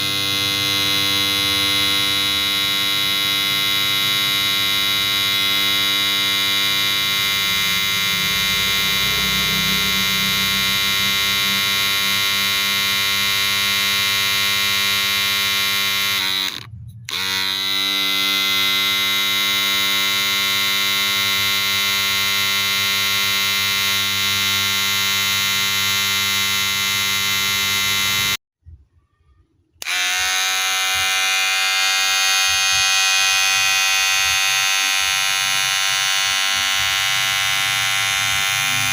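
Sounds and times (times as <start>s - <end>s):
hair clipper buzzing: 0.0s - 28.4s, 29.8s - 38.9s.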